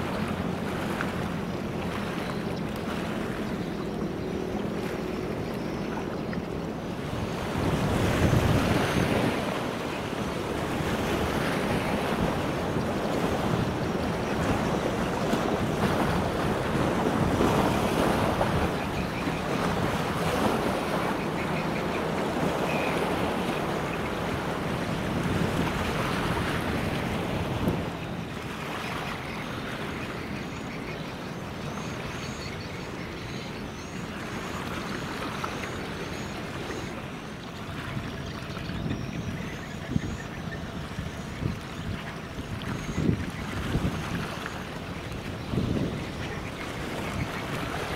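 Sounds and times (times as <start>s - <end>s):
wind buffeting microphone: 0.0s - 29.8s, 37.6s - 47.9s
river water lapping: 0.0s - 47.9s.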